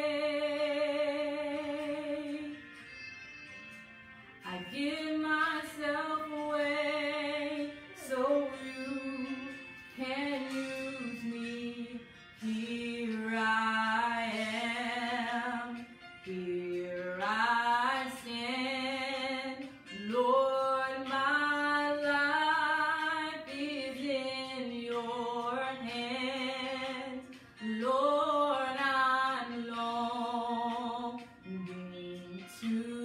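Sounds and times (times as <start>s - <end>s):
woman singing slow worship song: 0.0s - 2.8s, 4.4s - 33.0s.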